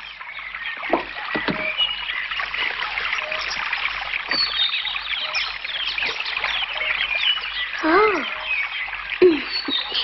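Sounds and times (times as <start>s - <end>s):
stream babbling: 0.0s - 10.0s.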